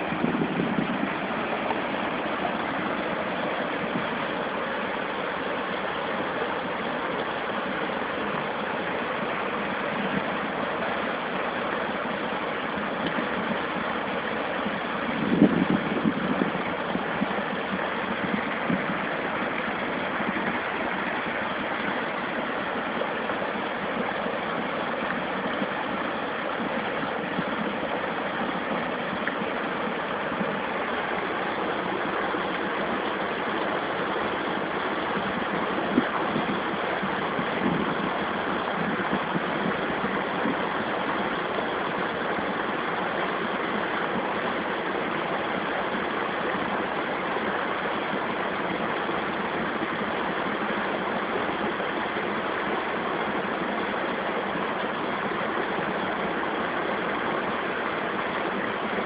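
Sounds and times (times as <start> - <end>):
fountain water rushing: 0.0 - 59.0
water splashes: 0.0 - 59.0.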